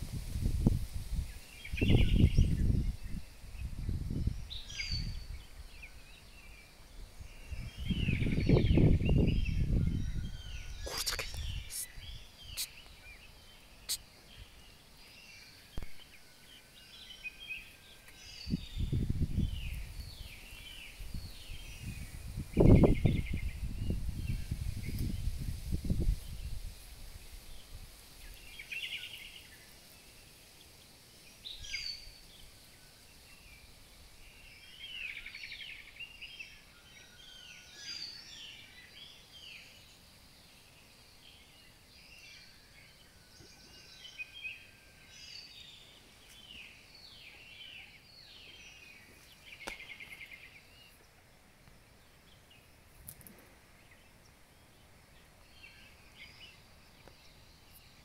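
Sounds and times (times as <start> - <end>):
wild birds singing and calling: 0.6 - 58.0.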